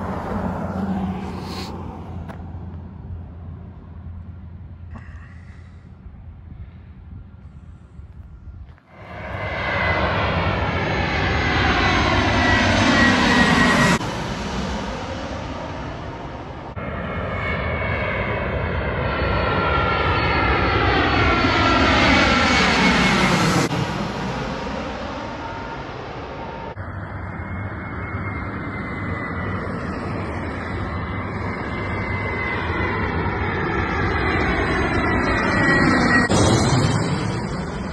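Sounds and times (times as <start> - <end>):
airliner passing overhead: 0.0 - 37.9.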